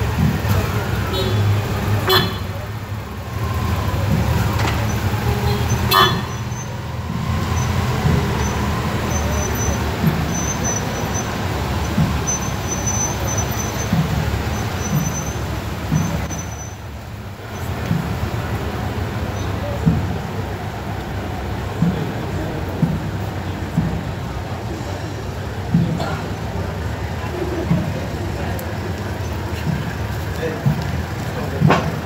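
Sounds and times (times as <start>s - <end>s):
motorcycle engine rumble: 0.0s - 32.0s.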